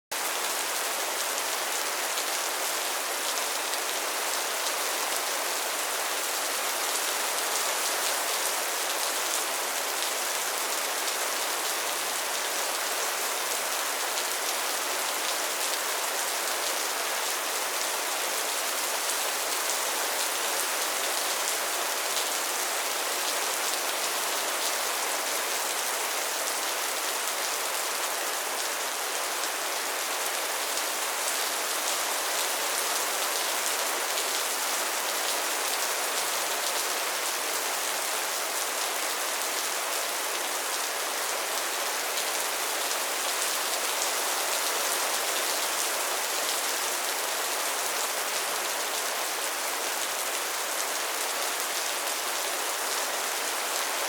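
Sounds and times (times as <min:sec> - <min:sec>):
steady rain patter: 0:00.1 - 0:54.0.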